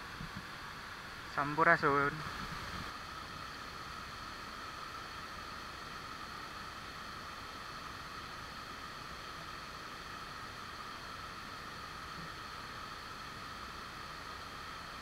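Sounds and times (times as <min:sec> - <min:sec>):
camera microphone hiss: 0:00.0 - 0:15.0.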